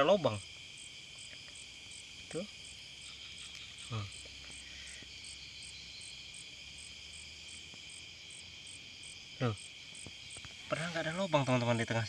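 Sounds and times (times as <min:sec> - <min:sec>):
night insects buzzing and chirping: 0:00.0 - 0:12.0.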